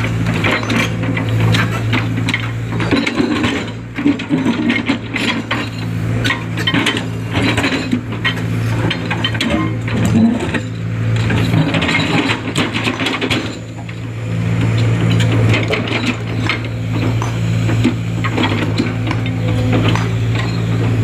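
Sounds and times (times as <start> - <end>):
excavator diesel engine running: 0.0 - 21.0
clanks and scraping clatter: 0.2 - 21.0.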